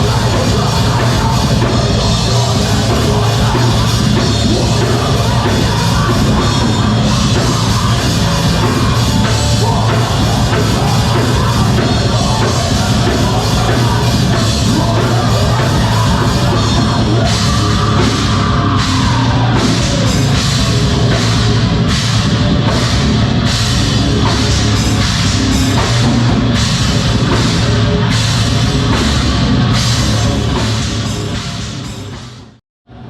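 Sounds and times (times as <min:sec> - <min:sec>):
drum kit beating: 0:00.0 - 0:32.6
rock band playing live: 0:00.0 - 0:32.6.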